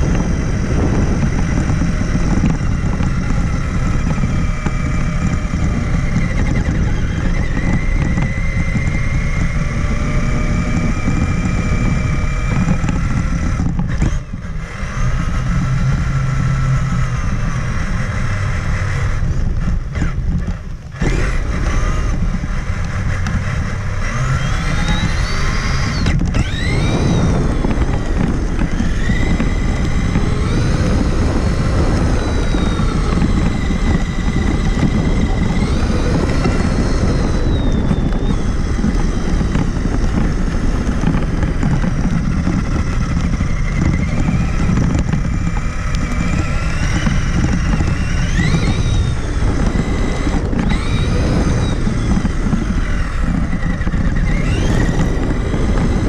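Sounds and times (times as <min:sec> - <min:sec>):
chassis and tyres rumbling: 0:00.0 - 0:56.0
electric motor and gearbox whine: 0:00.0 - 0:56.0.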